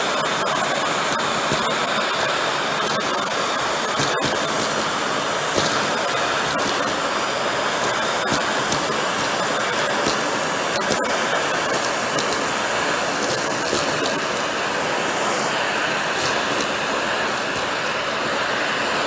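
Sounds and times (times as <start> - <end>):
vacuum cleaner running: 0.0 - 19.0
air sucked into hose: 1.0 - 19.0.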